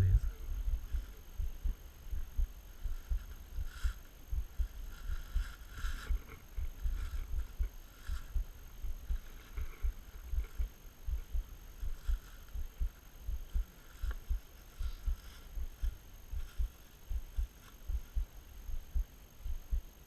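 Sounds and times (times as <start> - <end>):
dull low thuds: 0.0 - 20.0.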